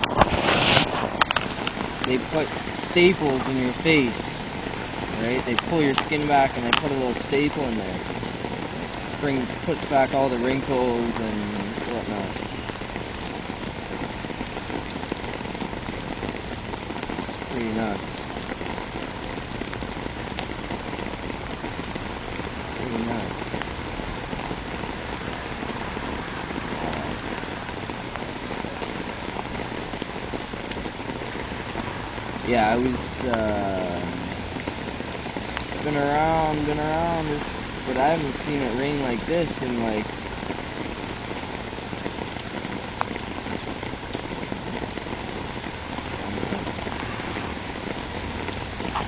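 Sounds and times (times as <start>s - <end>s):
heavy rain pattering: 0.0s - 49.0s.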